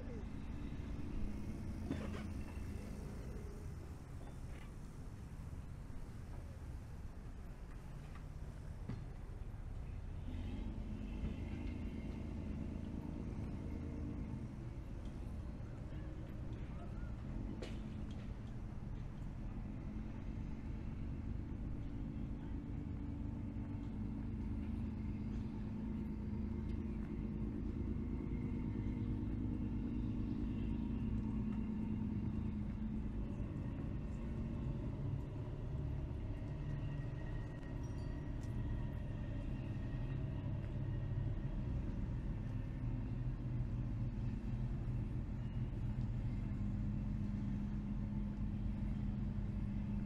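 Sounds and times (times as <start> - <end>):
low engine rumble: 0.0 - 50.0.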